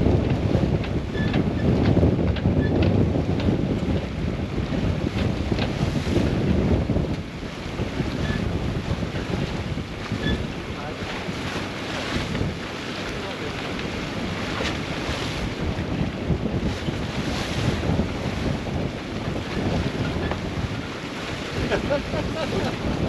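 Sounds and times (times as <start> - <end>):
waves washing along hull: 0.0 - 23.0
wind buffeting microphone: 0.0 - 23.0.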